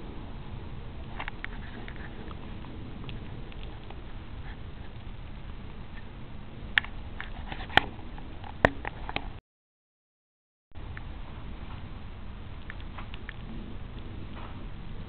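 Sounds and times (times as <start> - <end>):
low outdoor rumble: 0.0 - 9.4, 10.8 - 15.0.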